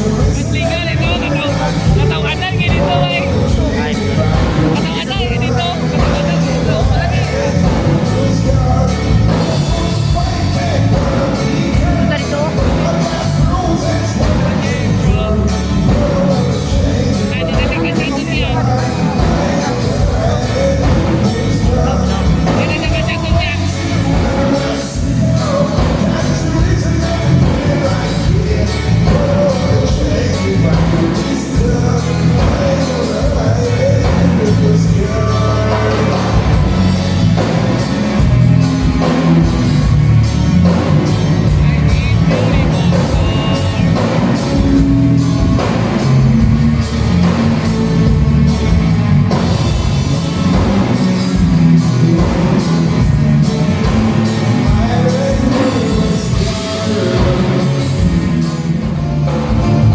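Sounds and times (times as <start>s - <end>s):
person singing: 0.0s - 37.6s, 40.6s - 49.5s, 51.6s - 59.9s
bass line: 0.0s - 59.9s
live band music: 0.0s - 59.9s
steady drums: 0.0s - 59.9s.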